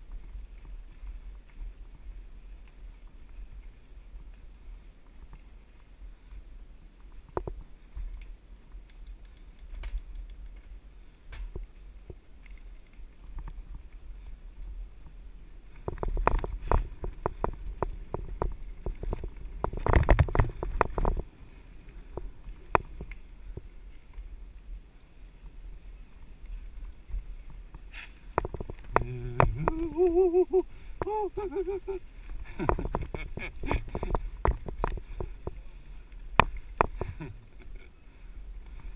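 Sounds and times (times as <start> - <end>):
bike rattling over rough ground: 0.0 - 30.3, 32.0 - 38.9
wind rumble on microphone: 0.0 - 38.9.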